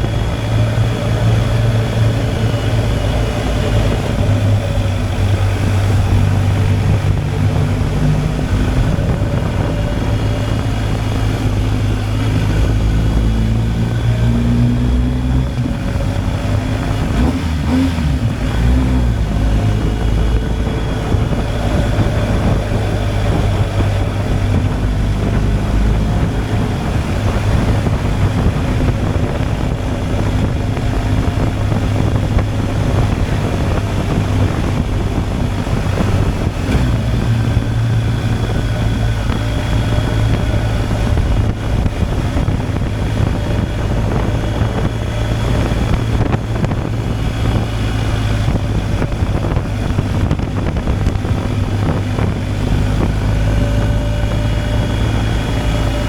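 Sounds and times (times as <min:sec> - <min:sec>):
motorcycle engine running: 0:00.0 - 0:56.0
wind rushing past: 0:00.0 - 0:56.0.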